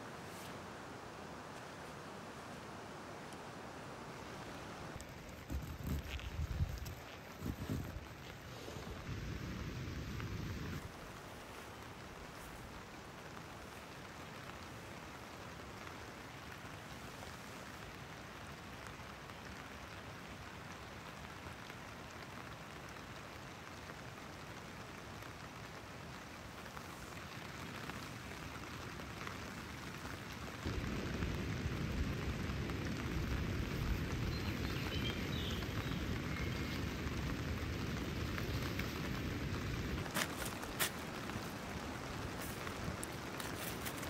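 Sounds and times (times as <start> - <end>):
steady rain hiss: 0.0 - 44.0.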